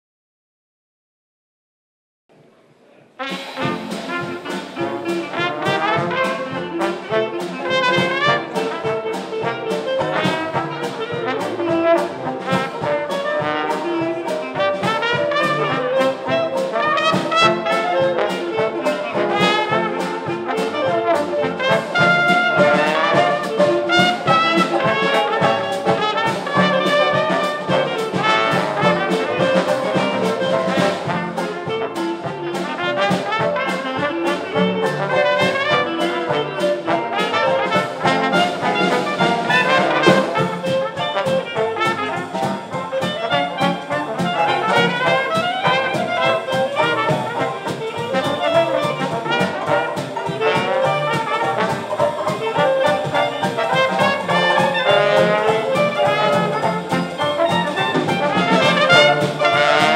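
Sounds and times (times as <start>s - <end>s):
traditional jazz band playing: 3.1s - 59.9s.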